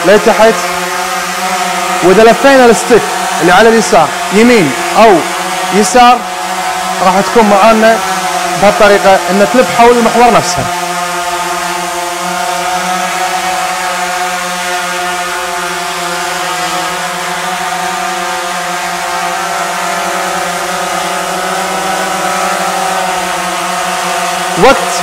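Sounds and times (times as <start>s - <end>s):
drone propellers buzzing: 0.0s - 25.0s.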